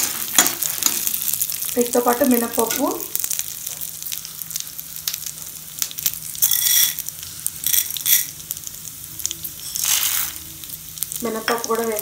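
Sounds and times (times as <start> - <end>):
chillies sizzling in oil: 0.0 - 12.0.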